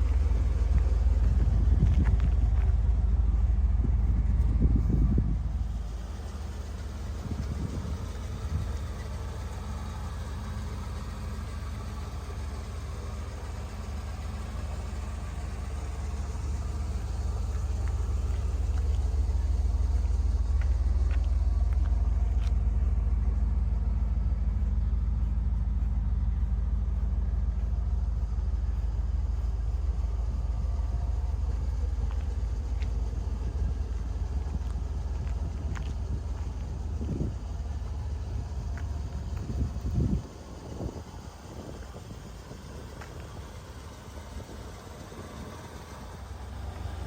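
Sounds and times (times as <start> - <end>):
engine deep low rumble: 0.0 - 47.0.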